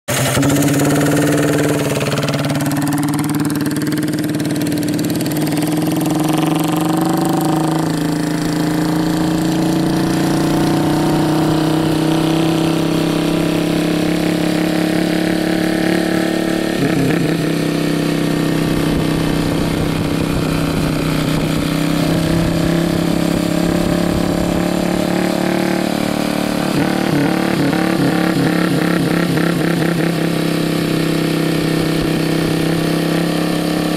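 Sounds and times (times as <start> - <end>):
diesel motorcycle engine running: 0.0 - 33.9.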